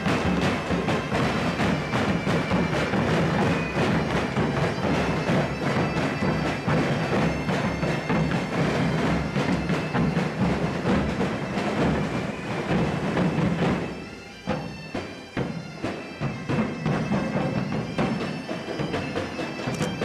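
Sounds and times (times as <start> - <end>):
bagpipe melody: 0.0 - 20.0
drums beating marching rhythm: 0.0 - 20.0.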